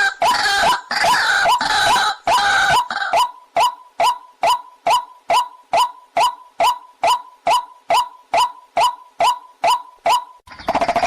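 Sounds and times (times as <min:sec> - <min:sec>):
waterhen calling: 0:00.0 - 0:10.6.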